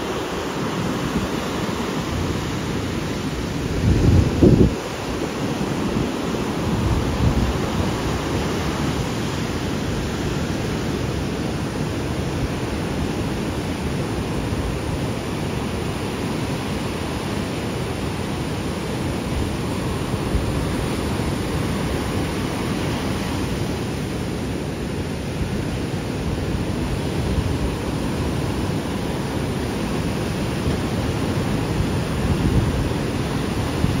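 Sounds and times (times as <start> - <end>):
ocean surf washing on beach: 0.0 - 34.0
wind rumbling on microphone: 0.0 - 34.0.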